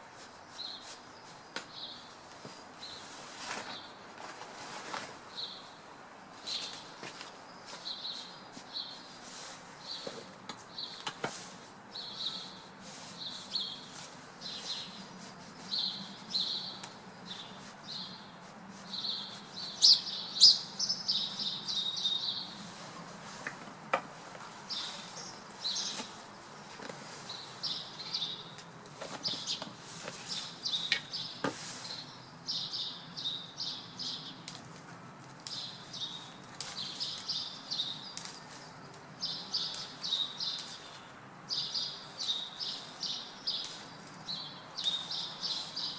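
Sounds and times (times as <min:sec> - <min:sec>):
small birds chirping: 0:00.2 - 0:04.0, 0:05.3 - 0:23.6, 0:24.4 - 0:34.8, 0:35.4 - 0:45.9.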